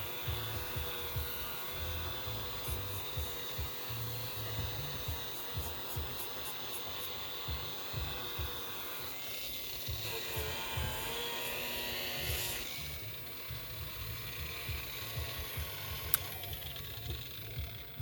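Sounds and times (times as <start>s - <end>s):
power buffer motor whine: 0.0s - 18.0s.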